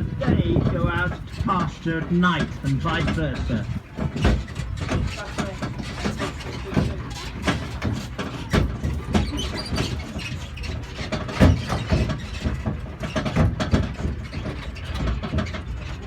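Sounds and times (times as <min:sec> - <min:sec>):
tractor engine running: 0:00.0 - 0:16.0
trailers rattling and knocking: 0:00.0 - 0:16.0.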